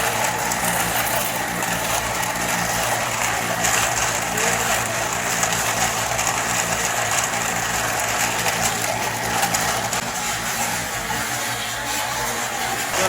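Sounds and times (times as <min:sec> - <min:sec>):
low motor hum: 0:00.0 - 0:13.0
metalworking machinery running: 0:00.0 - 0:13.0.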